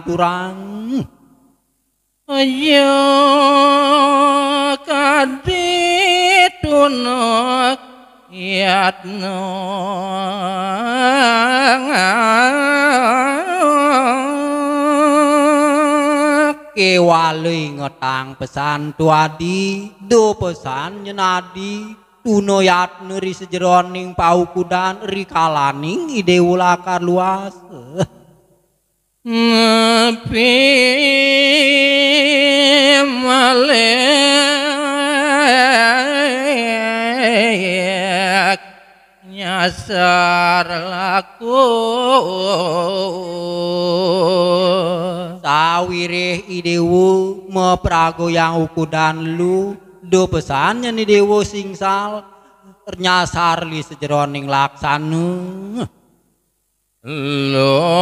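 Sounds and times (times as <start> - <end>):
man singing into microphone: 0.0 - 1.3, 2.3 - 28.3, 29.3 - 56.0, 57.0 - 58.0.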